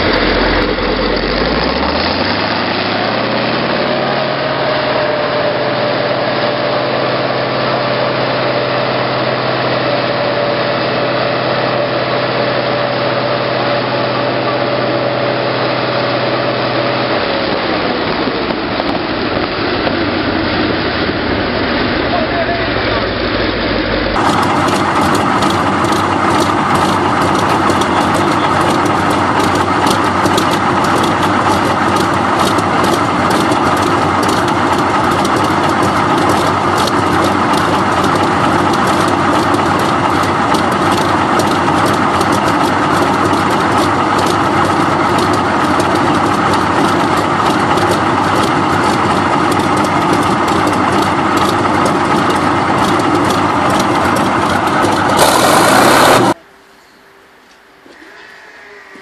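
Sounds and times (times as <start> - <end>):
tank diesel engine idling: 0.0 - 5.7, 7.0 - 56.4.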